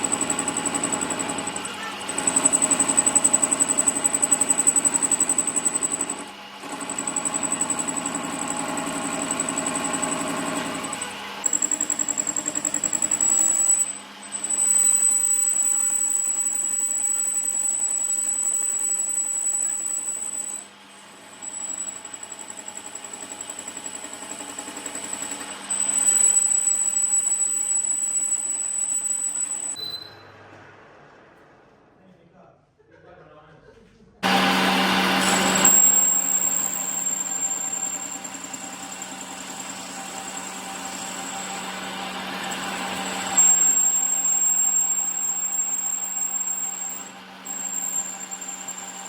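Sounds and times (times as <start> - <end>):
workshop machine whining: 0.0 - 32.0, 34.2 - 49.0.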